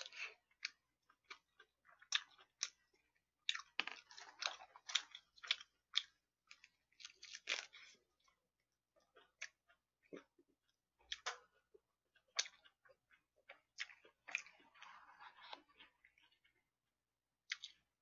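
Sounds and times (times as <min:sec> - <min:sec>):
crunchy chewing: 0:00.0 - 0:16.6, 0:17.4 - 0:18.0.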